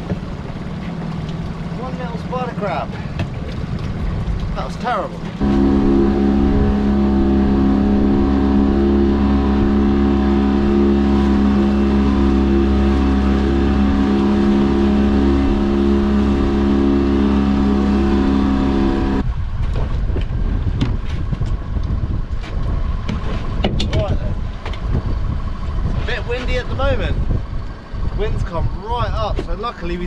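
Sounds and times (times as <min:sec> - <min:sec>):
boat engine running: 0:00.0 - 0:30.0
water noise: 0:00.0 - 0:30.0
wind: 0:00.0 - 0:30.0.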